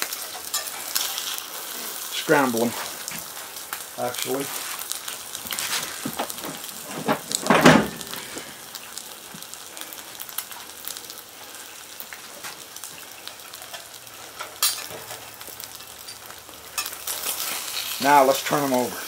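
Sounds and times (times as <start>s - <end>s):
eggs sizzling in a skillet: 0.0s - 19.0s.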